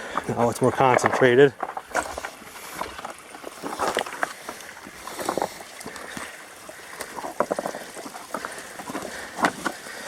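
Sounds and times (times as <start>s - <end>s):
creek water running over rocks: 0.0s - 10.0s.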